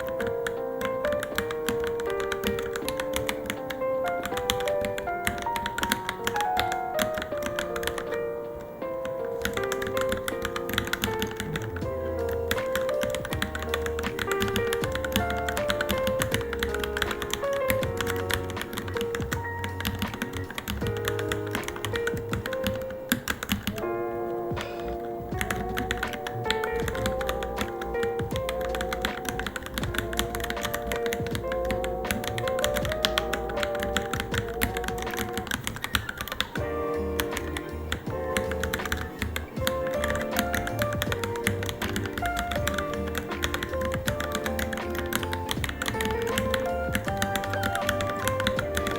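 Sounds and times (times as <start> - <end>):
mechanical keyboard typing: 0.0 - 8.2, 9.0 - 24.0, 24.6 - 48.9
background music: 0.0 - 48.9.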